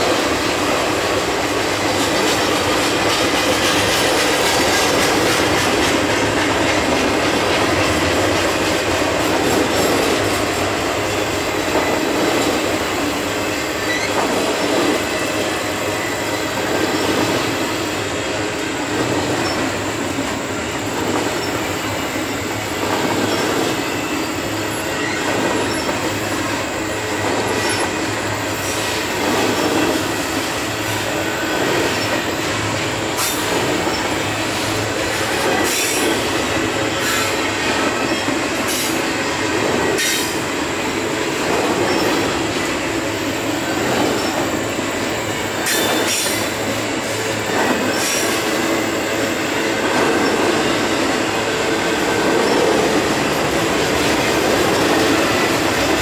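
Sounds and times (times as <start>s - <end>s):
steel train wheels rumbling on rails: 0.0s - 56.0s.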